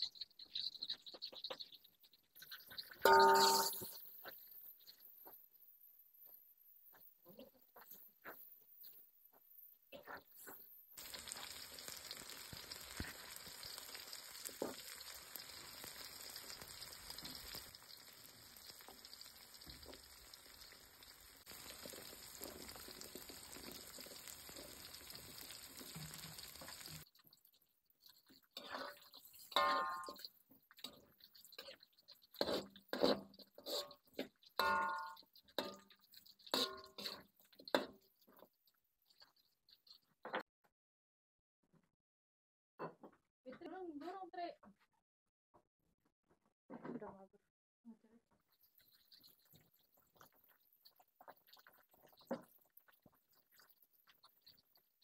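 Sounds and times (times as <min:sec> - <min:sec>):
food frying in hot oil: 0:00.0 - 0:40.4, 0:48.4 - 0:55.0.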